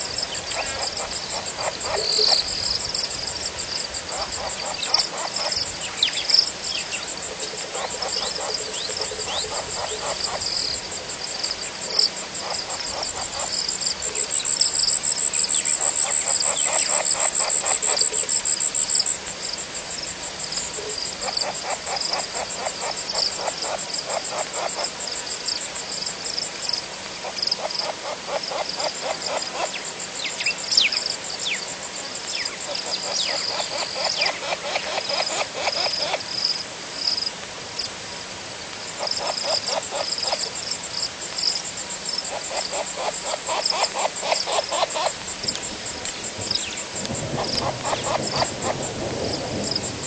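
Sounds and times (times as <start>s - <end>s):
frogs calling in pulsed trills: 0.0s - 37.9s, 38.8s - 50.0s
high-pitched insect trill: 0.0s - 37.9s, 38.9s - 50.0s.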